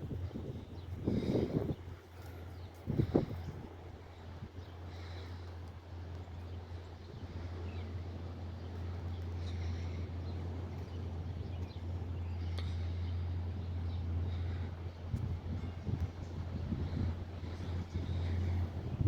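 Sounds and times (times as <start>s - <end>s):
heavy machine engine droning: 0.0s - 19.0s.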